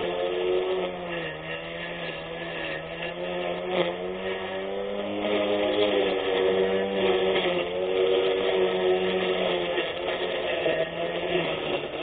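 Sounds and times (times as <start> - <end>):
electric lawn mower motor whine: 0.0 - 12.0.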